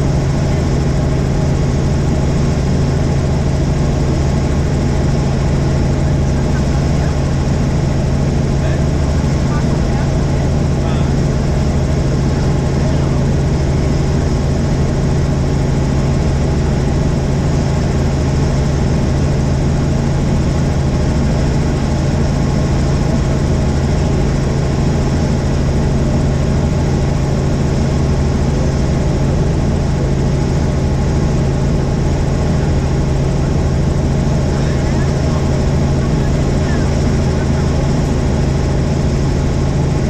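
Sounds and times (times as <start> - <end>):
helicopter engine and rotors droning: 0.0 - 40.0.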